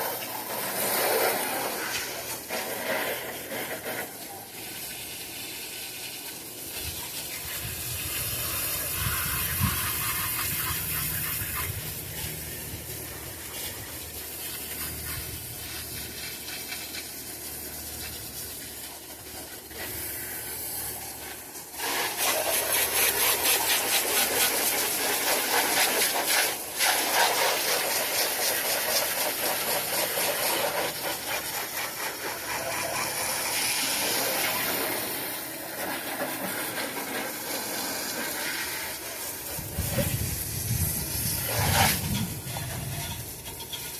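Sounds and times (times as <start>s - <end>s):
liquid spray hissing: 0.0s - 43.9s.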